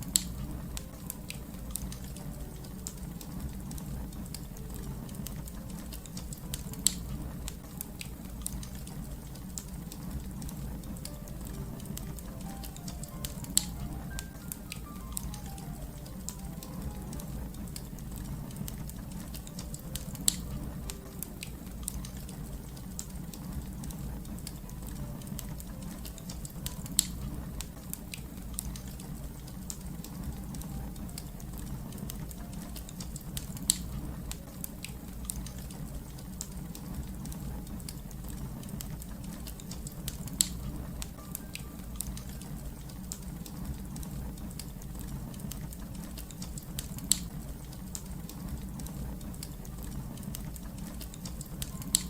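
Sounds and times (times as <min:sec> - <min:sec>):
fire crackling: 0:00.0 - 0:52.0.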